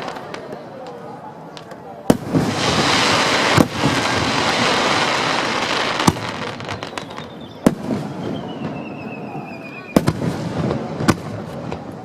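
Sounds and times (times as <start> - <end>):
fireworks bangs: 0.0 - 12.0
fireworks hissing crackle: 0.0 - 12.0.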